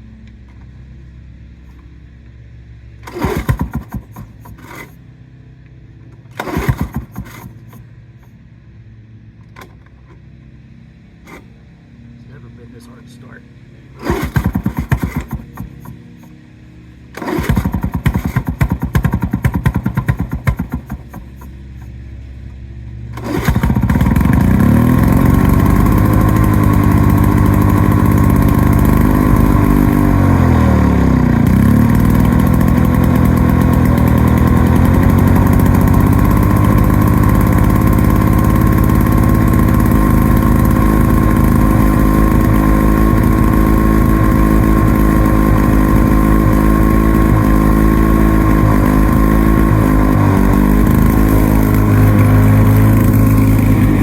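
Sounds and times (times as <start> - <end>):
mower engine starting and running: 0.0 - 54.0.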